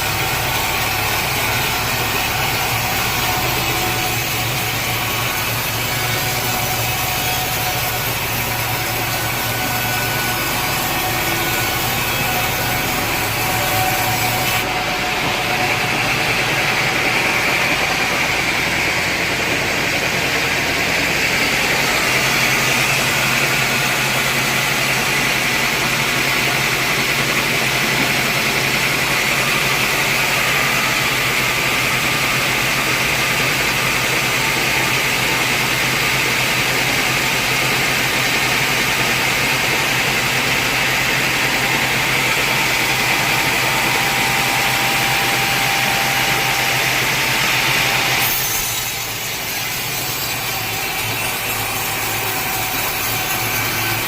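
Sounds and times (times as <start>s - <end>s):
sawmill machine hum: 0.0s - 54.0s.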